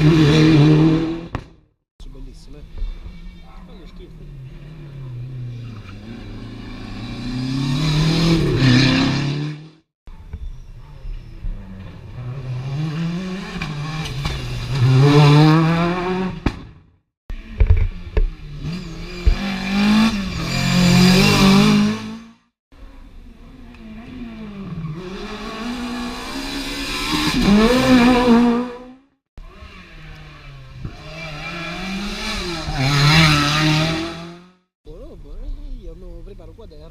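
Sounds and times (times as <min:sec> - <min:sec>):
rally cars accelerating: 0:00.0 - 0:01.4, 0:02.6 - 0:09.7, 0:11.2 - 0:16.6, 0:17.4 - 0:22.3, 0:23.0 - 0:34.6.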